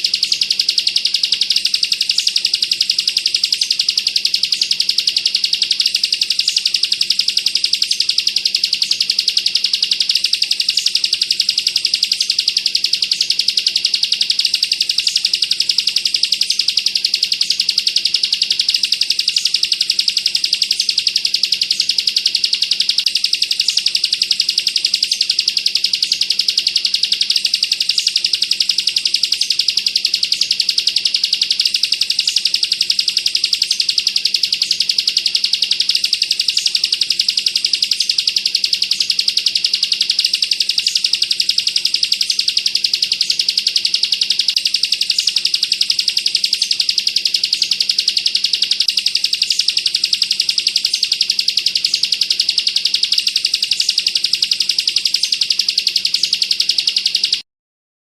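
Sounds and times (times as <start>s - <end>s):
bird singing rapid rattling trill: 0.0s - 57.4s.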